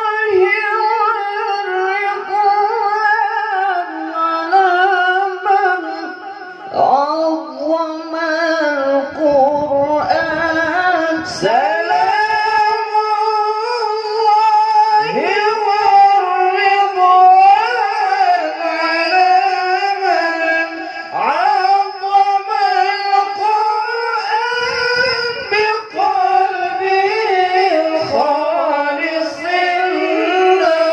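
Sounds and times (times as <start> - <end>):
men singing into microphones: 0.0 - 30.9.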